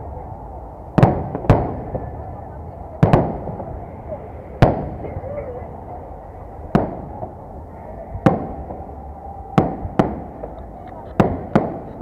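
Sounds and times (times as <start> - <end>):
background rumble: 0.0 - 12.0
fireworks bursting with bangs: 0.0 - 12.0.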